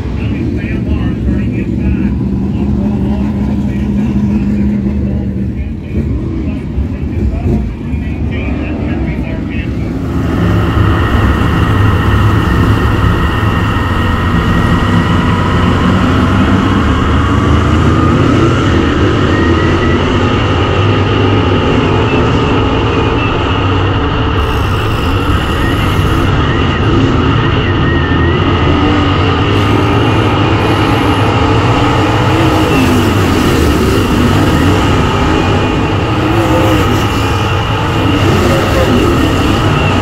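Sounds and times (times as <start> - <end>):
race car engine at speed: 0.0 - 40.0.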